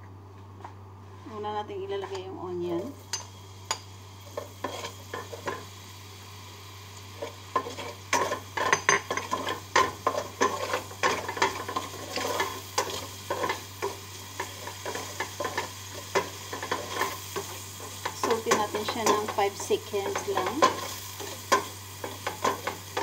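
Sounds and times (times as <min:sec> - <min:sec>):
onions sizzling in oil: 0:02.7 - 0:23.0.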